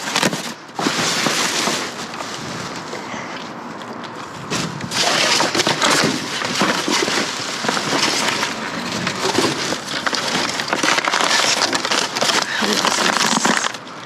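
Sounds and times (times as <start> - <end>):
rustling and crinkling bags: 0.0 - 14.0.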